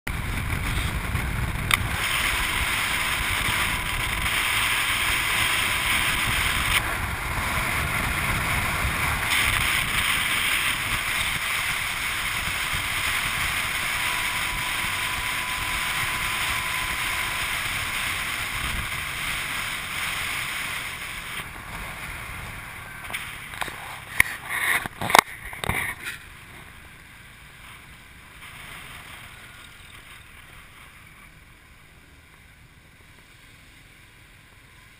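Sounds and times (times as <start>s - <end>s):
motorbike road noise: 0.0s - 34.9s
wind rushing over microphone: 0.1s - 31.1s.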